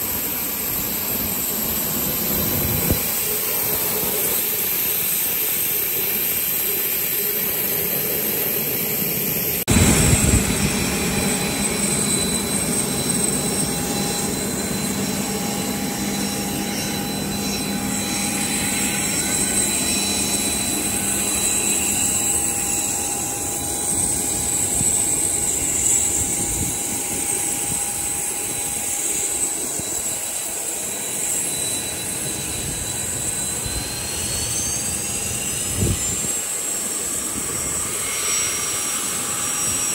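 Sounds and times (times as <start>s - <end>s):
high whine rising in pitch: 0.0s - 39.9s
jet engines rushing: 0.0s - 39.9s.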